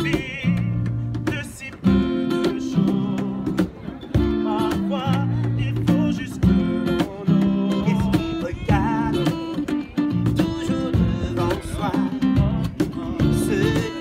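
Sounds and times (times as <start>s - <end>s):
acoustic guitar strumming chords: 0.0s - 14.0s
man singing: 0.0s - 14.0s.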